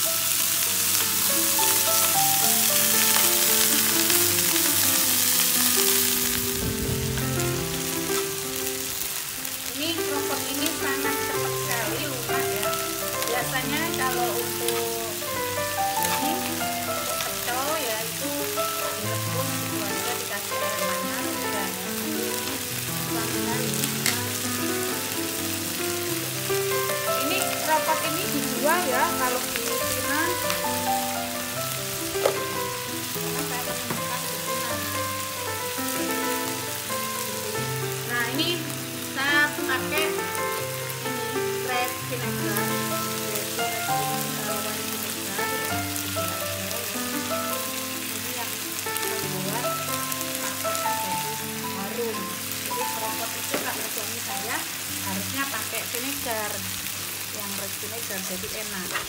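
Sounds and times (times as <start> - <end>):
background music with melody: 0.0 - 57.6
vegetables sizzling in a frying pan: 0.0 - 59.0.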